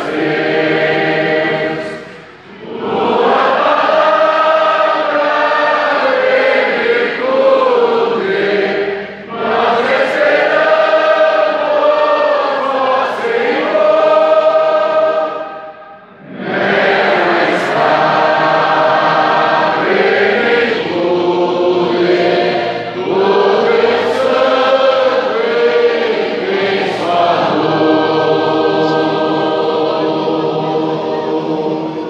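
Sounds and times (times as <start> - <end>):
congregation singing a hymn: 0.0 - 32.0.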